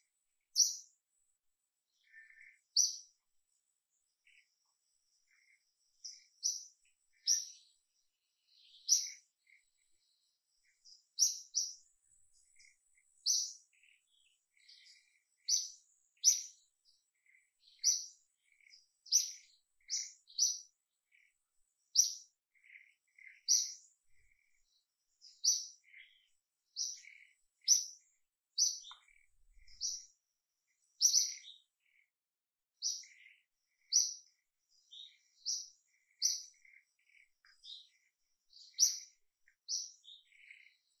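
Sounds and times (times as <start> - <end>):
lower bird twitters: 0.0 - 1.0, 5.2 - 7.8, 8.5 - 9.8, 10.6 - 30.2, 31.0 - 32.0, 32.8 - 41.0
bird chirping: 0.0 - 32.2, 32.8 - 41.0.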